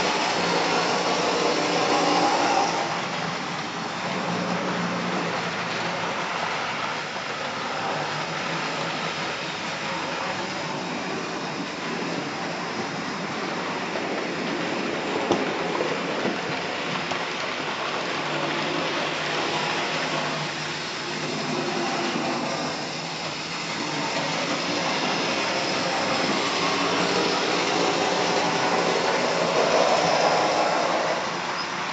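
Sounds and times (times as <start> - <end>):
model trains whirring on track: 0.0 - 31.9.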